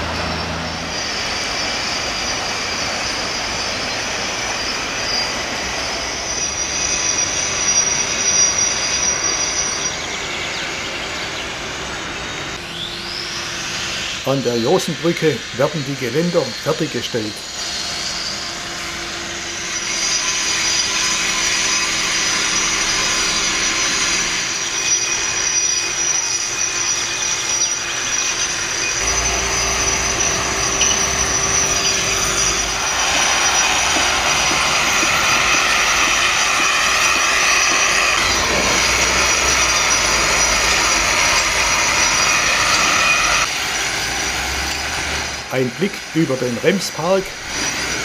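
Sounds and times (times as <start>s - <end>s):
construction machinery hiss: 0.0s - 48.0s
high steady whine: 0.0s - 48.0s.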